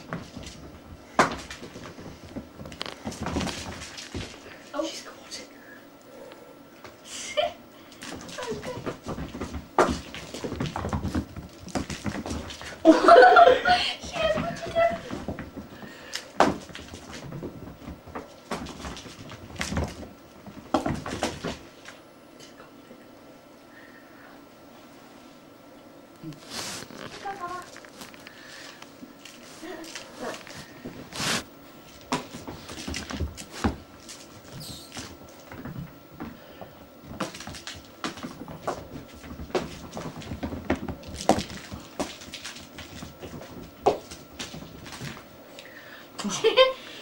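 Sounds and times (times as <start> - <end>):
kittens playing on carpet: 0.0 - 4.8, 7.8 - 13.3, 14.0 - 22.1, 26.2 - 45.8.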